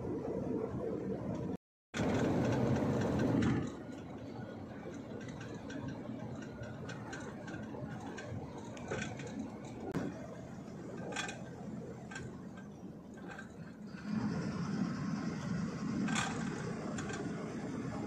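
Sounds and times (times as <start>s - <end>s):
light clicks and rattles: 2.0s - 14.4s, 16.0s - 18.0s.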